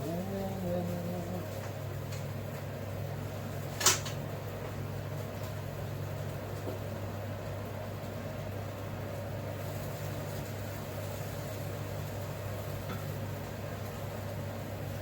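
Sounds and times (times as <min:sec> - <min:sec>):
appliance electrical hum: 0:00.0 - 0:15.0
fan-like hiss: 0:00.0 - 0:15.0.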